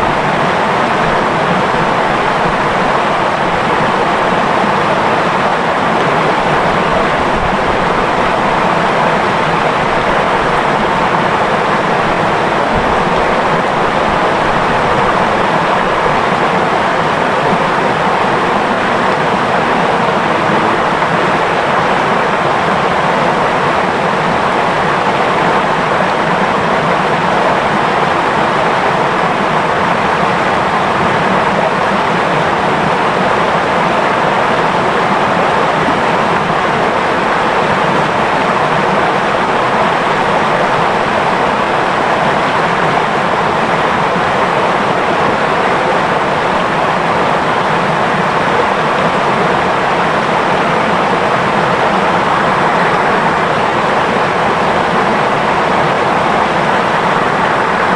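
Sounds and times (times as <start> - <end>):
river water rushing and babbling: 0.0 - 57.9.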